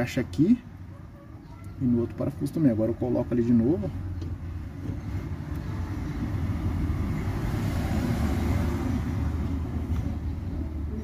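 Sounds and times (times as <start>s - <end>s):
road vehicle passing: 0.0s - 11.0s.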